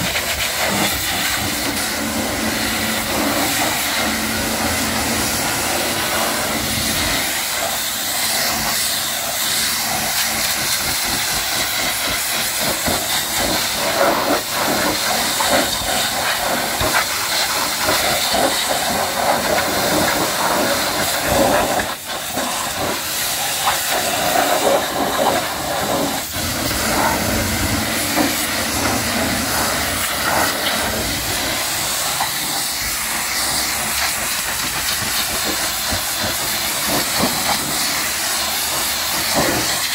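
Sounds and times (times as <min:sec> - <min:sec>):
pressure washer jet spraying: 0:00.0 - 0:39.9.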